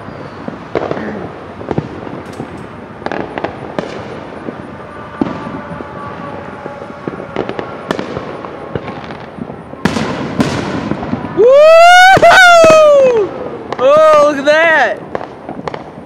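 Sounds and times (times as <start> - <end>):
distant fireworks bangs and pops: 0.0 - 16.0.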